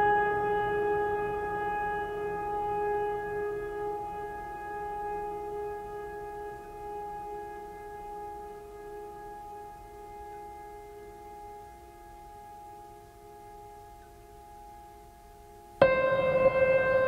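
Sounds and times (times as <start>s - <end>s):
sustained drone tone: 0.0s - 17.0s.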